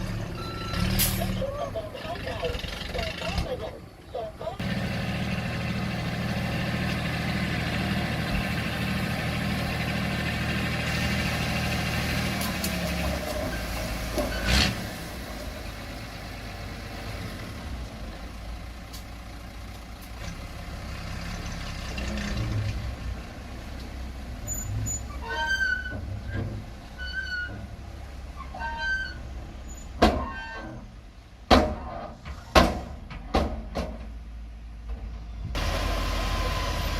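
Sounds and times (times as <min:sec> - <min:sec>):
diesel engine running: 0:00.0 - 0:31.9, 0:34.0 - 0:36.9.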